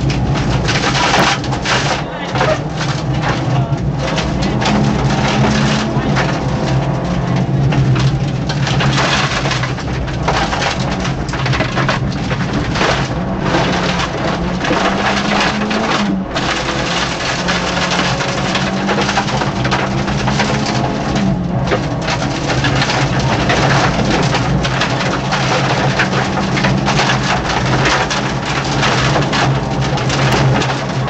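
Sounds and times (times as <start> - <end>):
car engine at high revs: 0.0 - 31.0
rattle of small knocks: 0.0 - 31.0.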